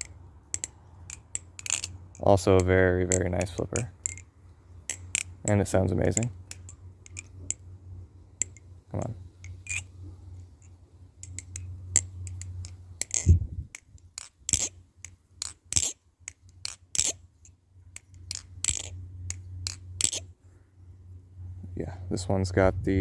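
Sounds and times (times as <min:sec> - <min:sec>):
butterfly knife clicking: 0:00.0 - 0:04.3, 0:04.9 - 0:07.6, 0:08.4 - 0:20.3.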